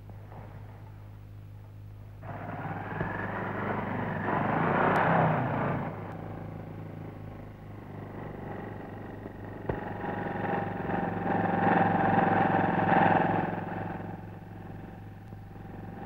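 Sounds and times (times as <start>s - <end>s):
motorcycle engine running: 2.2s - 16.0s.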